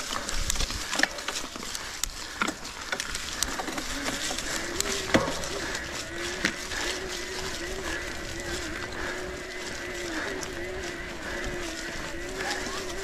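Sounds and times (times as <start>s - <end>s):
bike rattling and knocking: 0.0s - 13.0s
bike tyres rolling on trail: 0.0s - 13.0s.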